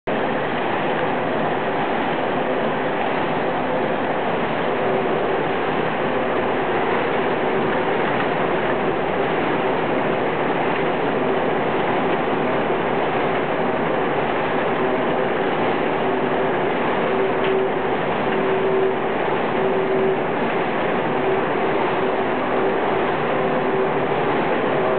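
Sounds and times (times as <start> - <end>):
faint hum of tones: 0.1 - 24.9
mechanical noise of machinery: 0.1 - 24.9.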